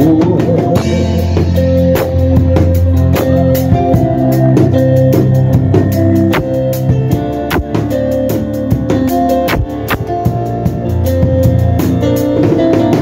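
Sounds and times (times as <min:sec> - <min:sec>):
drum kit beat: 0:00.0 - 0:13.0
electric guitar: 0:00.0 - 0:13.0
sustained bass notes: 0:00.0 - 0:13.0.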